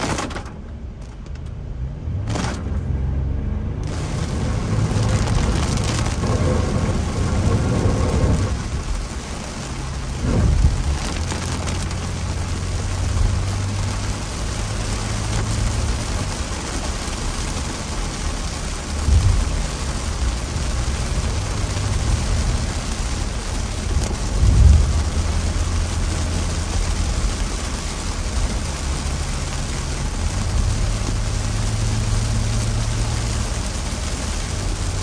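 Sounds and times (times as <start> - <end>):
heavy rain on car roof: 0.0 - 1.6, 2.2 - 3.0, 3.8 - 35.0
car driving on wet road: 0.0 - 35.0.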